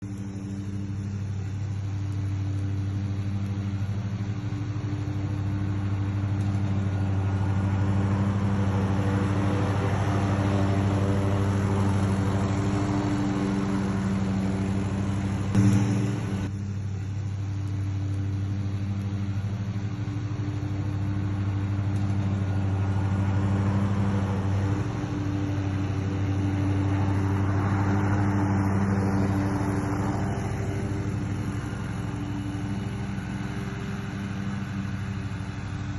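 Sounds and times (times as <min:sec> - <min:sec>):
riding mower engine running: 0:00.0 - 0:35.9.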